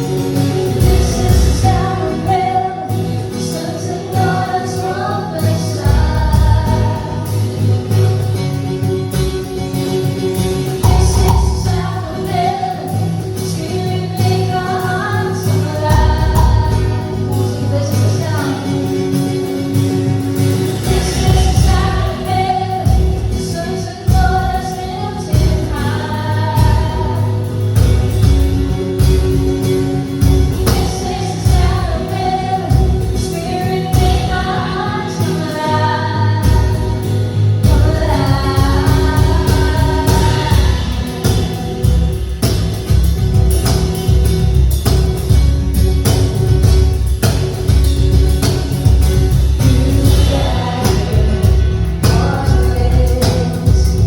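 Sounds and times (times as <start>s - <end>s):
worship song with singers: 0.0s - 8.8s, 10.2s - 43.2s, 49.0s - 54.0s
bass and drums: 0.0s - 54.0s
keyboard and guitar chords: 0.0s - 54.0s.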